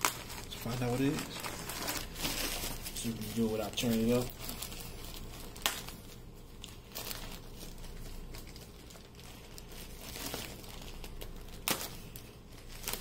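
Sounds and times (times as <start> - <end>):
packaging bag crinkling: 0.0 - 13.0.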